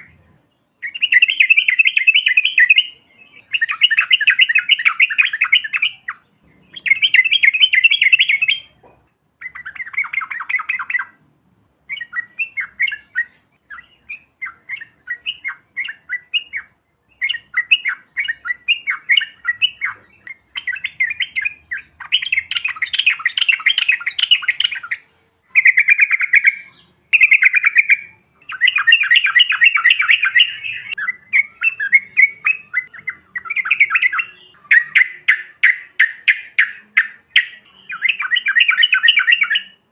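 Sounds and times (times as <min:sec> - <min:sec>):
bulbuls bubbling chattering song: 0:00.0 - 0:11.2, 0:11.8 - 0:39.9.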